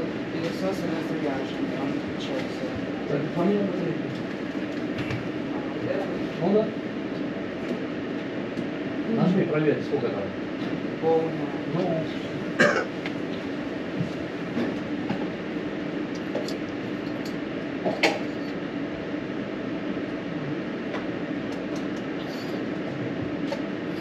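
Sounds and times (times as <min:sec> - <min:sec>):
mechanical drone with low hum: 0:00.0 - 0:24.0.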